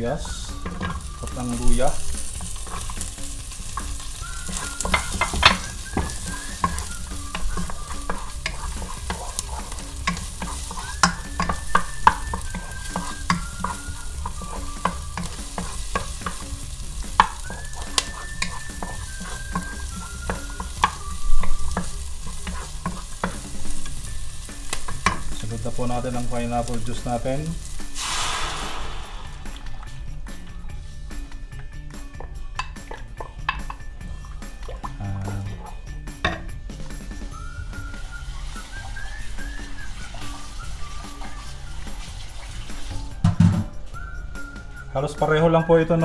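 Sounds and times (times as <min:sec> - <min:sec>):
food sizzling in oil: 0:00.0 - 0:46.0.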